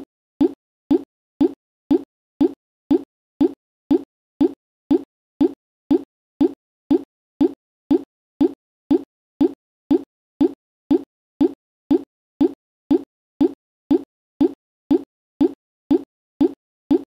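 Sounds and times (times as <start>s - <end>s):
low pop sound effect: 0.0s - 17.0s.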